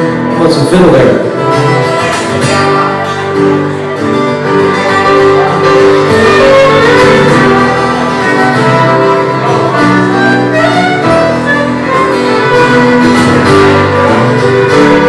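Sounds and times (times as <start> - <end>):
fiddle bowed melody: 0.0 - 15.0
keyboard: 0.0 - 15.0
strummed acoustic guitars: 0.0 - 15.0.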